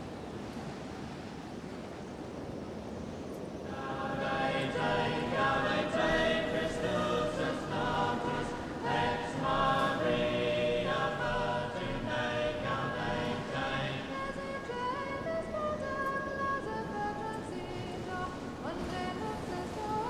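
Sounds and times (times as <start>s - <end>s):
choir singing held chords: 3.6s - 20.0s.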